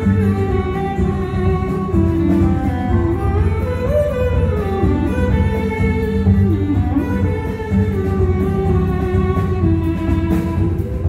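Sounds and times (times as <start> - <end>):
acoustic guitar: 0.0 - 11.0
double bass: 0.0 - 11.0
violin sliding melody: 0.0 - 11.0.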